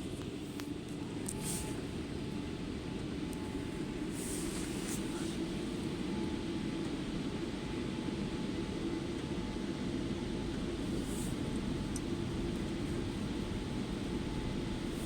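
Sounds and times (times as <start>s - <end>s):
muffled car wash rumble: 0.0s - 7.2s, 9.1s - 15.0s.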